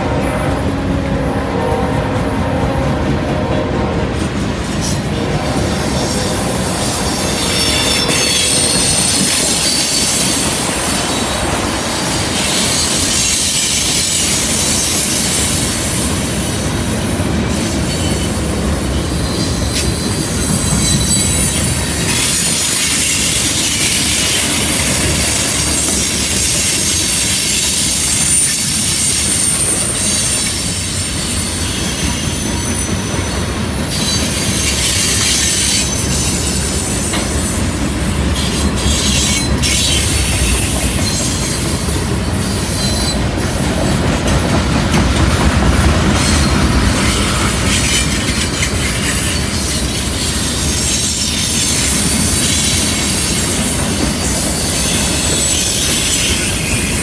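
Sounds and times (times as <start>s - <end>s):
steel wheels rumbling on rail: 0.0s - 57.0s
wheel flange squeal: 4.7s - 16.0s, 17.5s - 43.5s, 46.2s - 57.0s.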